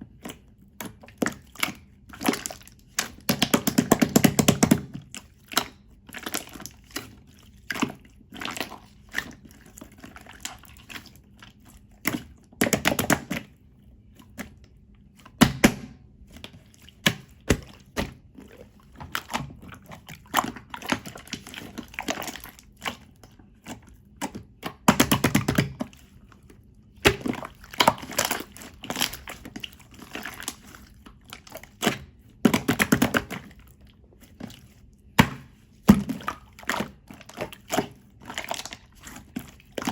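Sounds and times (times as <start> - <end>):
slime squished by hand: 0.1 - 39.9.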